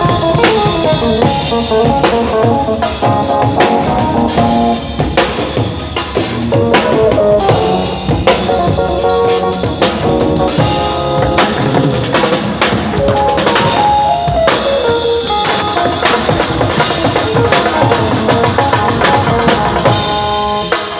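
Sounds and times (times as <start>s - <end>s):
band playing loudly: 0.0s - 20.9s
drum kit: 0.0s - 20.9s.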